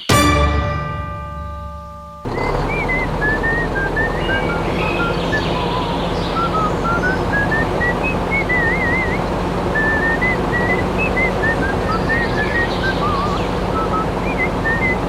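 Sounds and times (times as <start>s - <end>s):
low machine hum: 1.1s - 15.0s
person whistling a tune: 2.3s - 15.0s.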